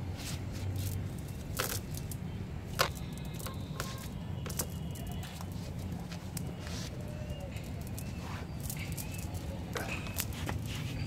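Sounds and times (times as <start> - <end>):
low background noise: 0.0 - 11.0
cast net clinks and rustles: 0.6 - 11.0.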